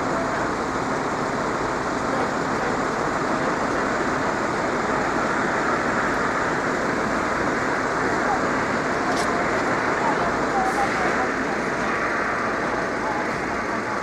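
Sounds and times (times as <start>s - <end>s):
road traffic hiss: 0.0s - 14.0s.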